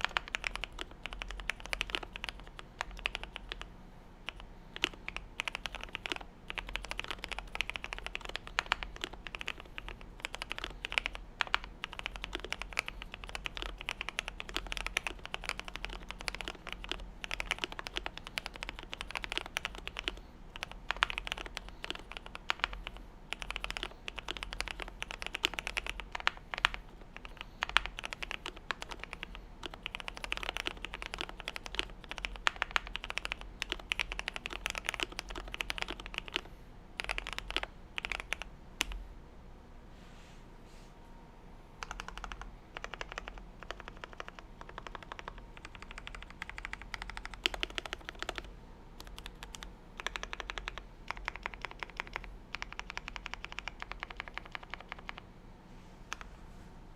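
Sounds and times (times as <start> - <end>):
fast mechanical keyboard typing: 0.0 - 39.0, 41.8 - 55.2.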